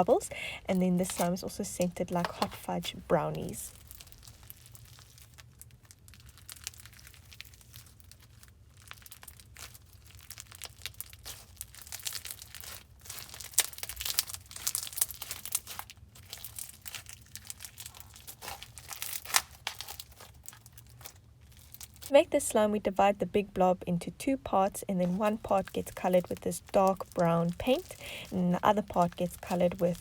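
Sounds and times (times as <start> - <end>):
slime crackling and popping: 0.0 - 22.2, 24.2 - 30.0.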